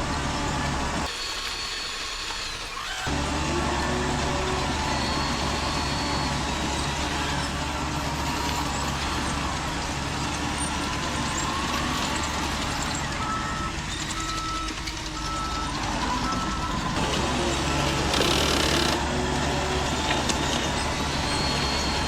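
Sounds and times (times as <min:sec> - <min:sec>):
model truck engine sound: 0:00.0 - 0:22.0
reversing beeper beeps: 0:00.4 - 0:19.8, 0:20.4 - 0:22.0.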